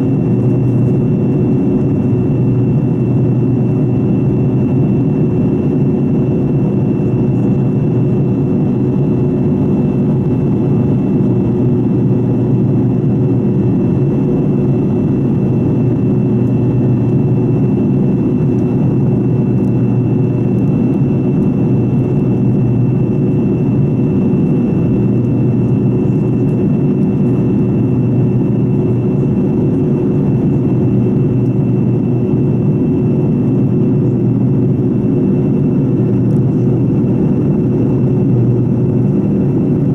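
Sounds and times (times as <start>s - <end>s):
high engine whine: 0.0s - 39.9s
jet engine rumble: 0.0s - 39.9s.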